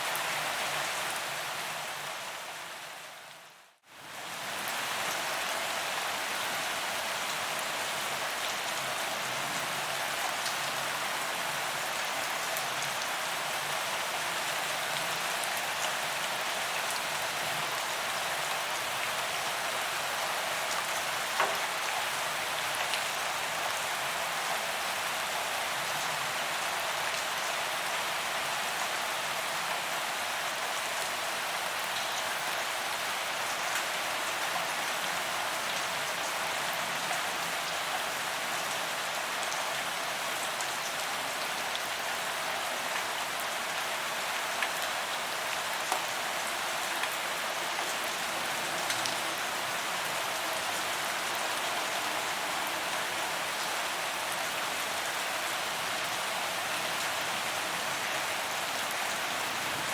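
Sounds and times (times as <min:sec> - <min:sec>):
rain on pavement: 0:00.0 - 0:59.9.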